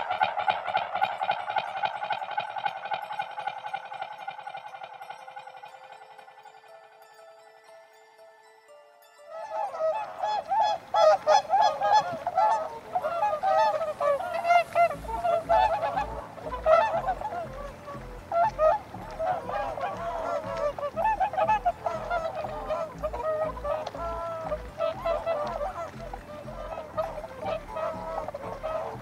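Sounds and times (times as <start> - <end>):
waterfowl honking: 0.0 - 6.3, 9.3 - 29.0
low regular pulsing beat: 0.0 - 7.0, 10.4 - 29.0.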